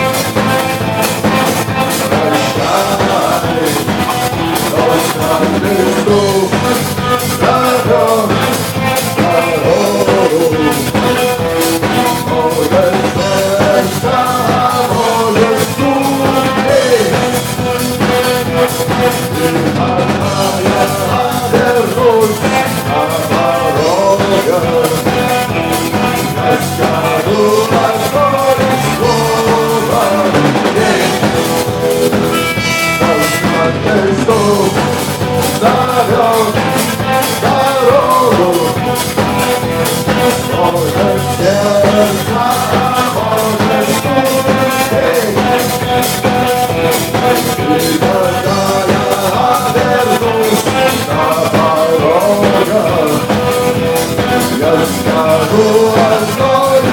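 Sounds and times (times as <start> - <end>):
rock music: 0.0 - 56.9.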